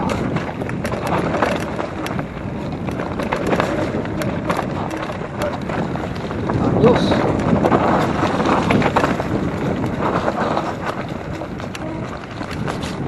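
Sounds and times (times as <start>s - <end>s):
bike clicking and rattling: 0.0s - 13.0s
bike tyres on dirt trail: 0.0s - 13.0s.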